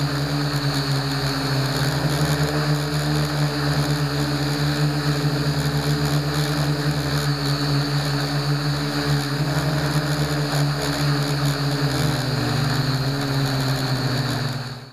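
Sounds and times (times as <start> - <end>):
quadcopter motors buzzing: 0.0 - 14.9.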